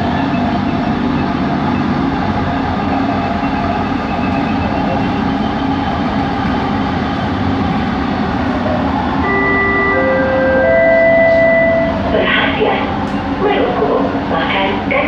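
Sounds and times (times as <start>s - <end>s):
train rumble from inside: 0.0s - 15.0s.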